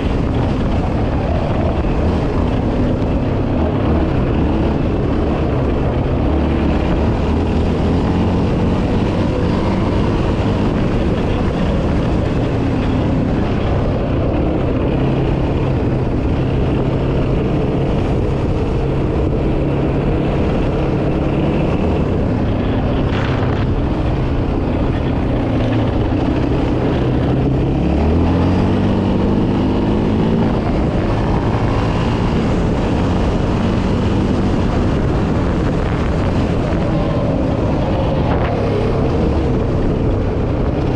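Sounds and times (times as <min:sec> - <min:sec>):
quad engine running and revving: 0:00.0 - 0:40.9.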